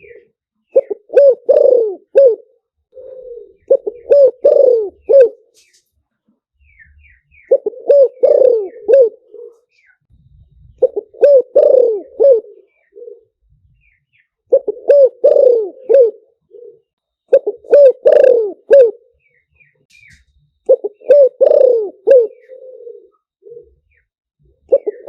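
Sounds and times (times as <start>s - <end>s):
dove cooing: 0.0s - 5.6s, 6.7s - 19.3s, 20.7s - 25.0s.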